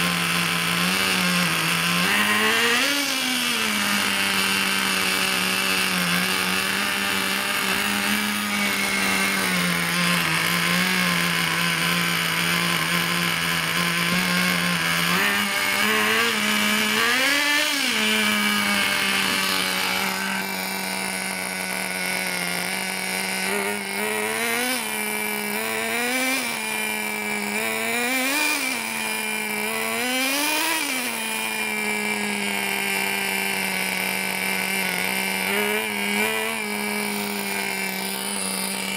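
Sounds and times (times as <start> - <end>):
small nitro engine revving: 0.0 - 38.9.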